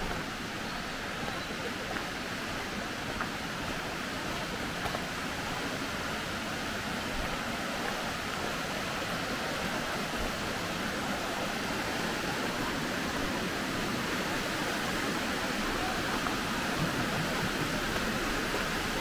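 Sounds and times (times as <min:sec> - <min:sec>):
water cascading: 0:00.0 - 0:19.0.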